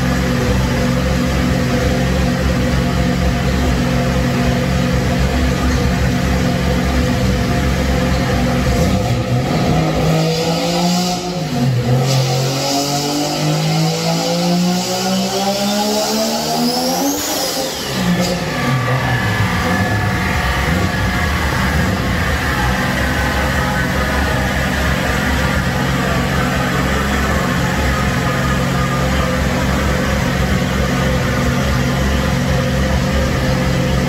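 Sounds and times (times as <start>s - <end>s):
rotary engine idling and revving: 0.0s - 34.0s.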